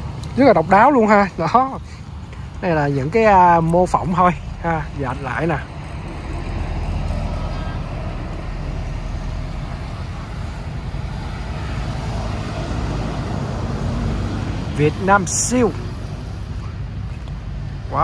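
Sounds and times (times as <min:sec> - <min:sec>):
low background rumble: 0:02.4 - 0:18.0.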